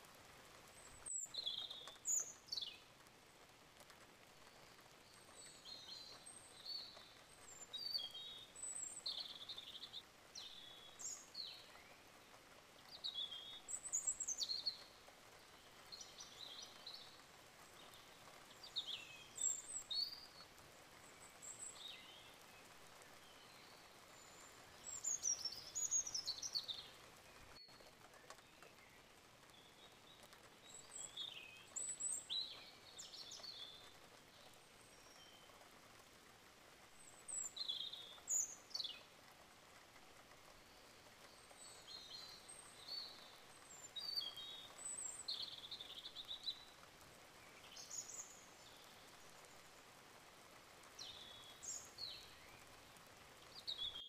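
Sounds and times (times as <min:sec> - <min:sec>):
faint steady hiss: 0:00.0 - 0:54.0
small birds chirping: 0:00.0 - 0:54.0.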